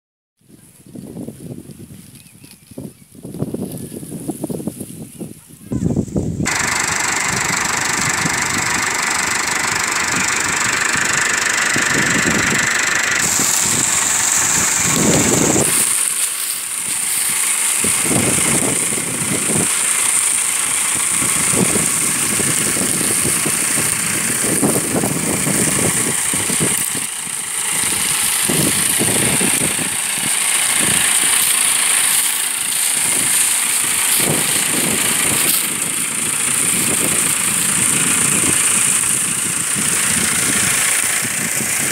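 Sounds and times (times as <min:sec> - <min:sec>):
tractor diesel engine running: 0:06.2 - 0:41.9.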